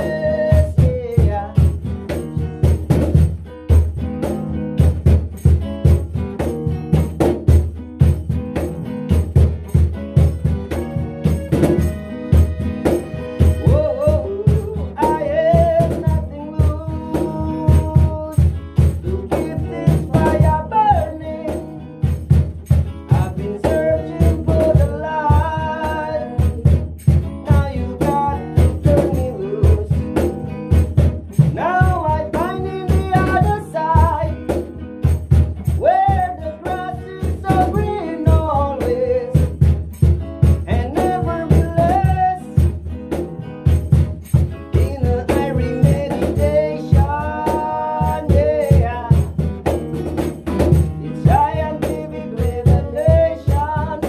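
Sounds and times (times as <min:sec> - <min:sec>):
man singing: 0:00.0 - 0:02.5, 0:10.4 - 0:34.8, 0:35.6 - 0:42.9, 0:43.6 - 0:49.8, 0:50.6 - 0:54.0
strummed acoustic guitar: 0:00.0 - 0:54.0.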